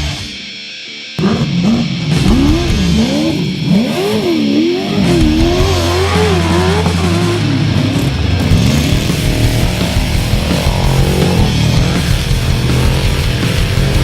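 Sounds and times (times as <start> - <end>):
vehicle engine revving: 1.2 - 14.0.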